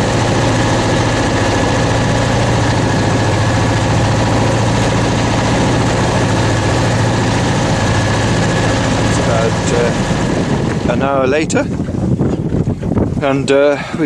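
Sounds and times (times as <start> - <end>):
boat engine humming: 0.0 - 14.0
wind and sea rushing: 0.0 - 14.0.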